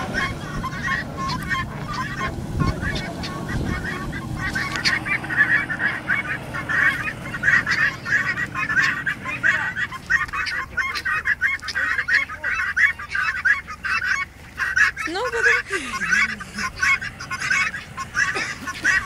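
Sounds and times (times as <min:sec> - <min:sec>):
guineafowl calling: 0:00.0 - 0:19.0.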